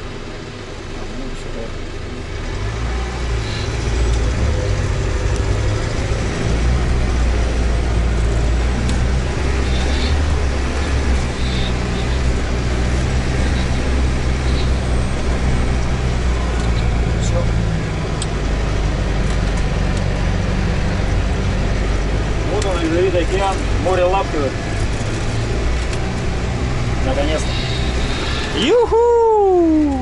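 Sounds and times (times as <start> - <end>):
diesel engine droning in cab: 0.0 - 30.0.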